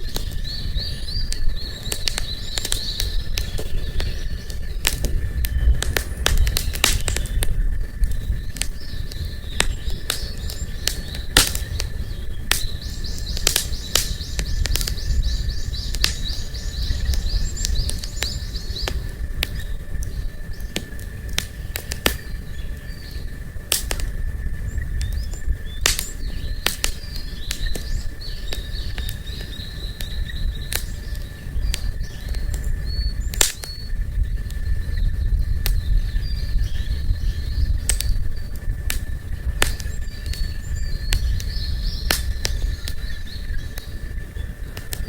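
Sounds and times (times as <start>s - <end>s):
campfire crackling: 0.0s - 45.0s.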